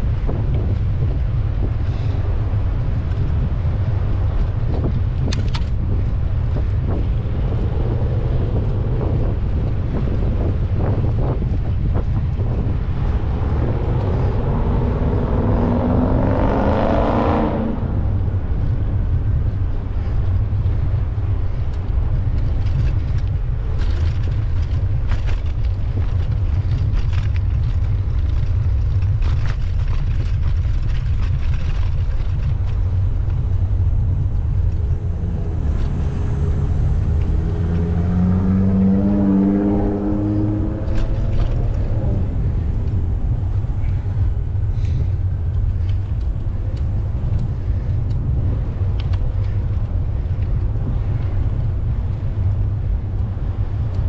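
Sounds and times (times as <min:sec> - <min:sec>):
passing traffic: 0:00.0 - 0:54.0
vehicle engine accelerating: 0:00.0 - 0:54.0
wind rumbling on microphone: 0:00.0 - 0:54.0.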